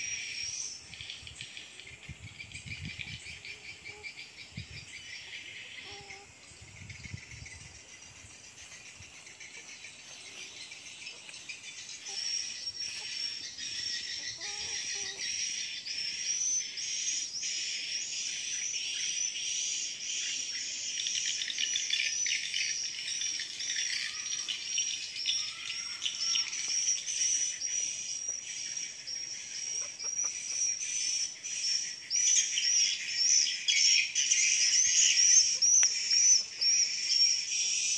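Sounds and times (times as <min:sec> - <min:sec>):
birds chirping: 0:00.0 - 0:37.9
insects chorus: 0:00.0 - 0:37.9.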